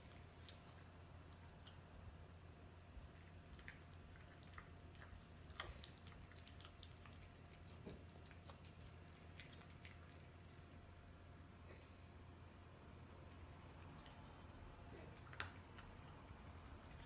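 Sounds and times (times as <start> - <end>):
cats chewing dry kibble: 0.0 - 11.0, 13.1 - 17.0.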